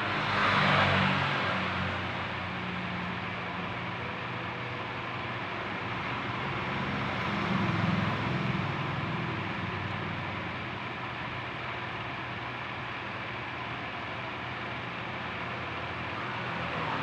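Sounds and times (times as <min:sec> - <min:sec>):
motor vehicle engine hum: 0:02.1 - 0:17.0.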